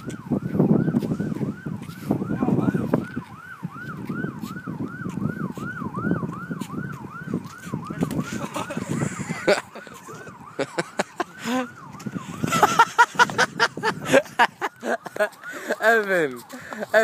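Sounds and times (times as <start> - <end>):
siren yelping: 0.0 - 17.0.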